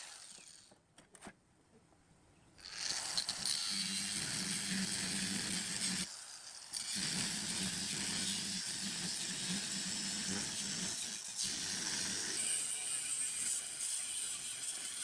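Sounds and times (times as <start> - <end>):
power tool pulsing hum and hiss: 0.0 - 0.7, 2.6 - 15.0.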